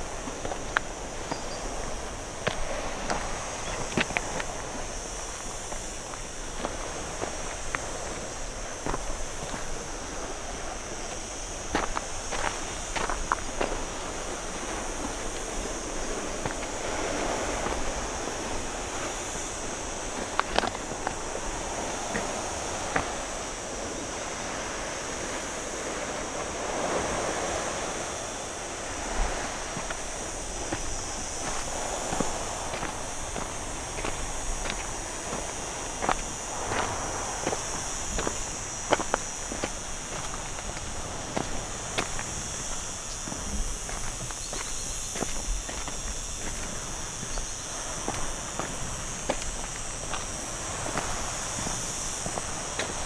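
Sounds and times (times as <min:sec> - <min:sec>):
light footsteps: 0:00.0 - 0:23.5, 0:29.0 - 0:53.0
sea waves washing on shore: 0:00.0 - 0:53.0
steady high-pitched hiss: 0:00.0 - 0:53.0.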